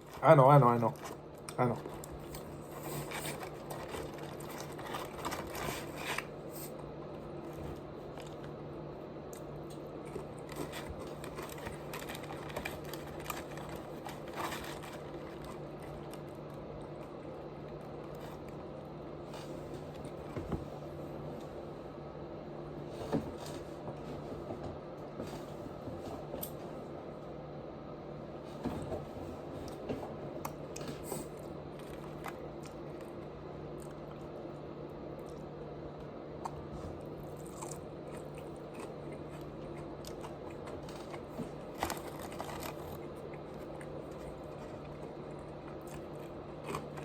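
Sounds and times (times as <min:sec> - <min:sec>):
chewing and munching food: 0:00.0 - 0:21.4, 0:29.4 - 0:47.0.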